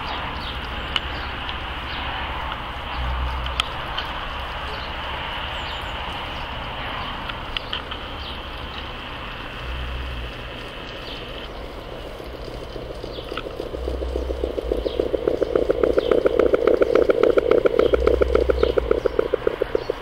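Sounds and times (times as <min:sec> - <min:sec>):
low rumble: 0:00.0 - 0:04.5, 0:08.0 - 0:20.0
steady hiss: 0:00.0 - 0:20.0.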